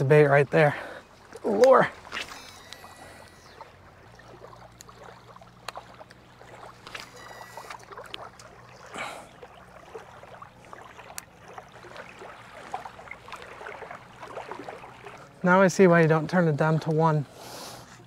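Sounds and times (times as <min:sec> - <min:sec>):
faint water sounds: 0:00.0 - 0:18.0
low steady hum: 0:00.0 - 0:18.0.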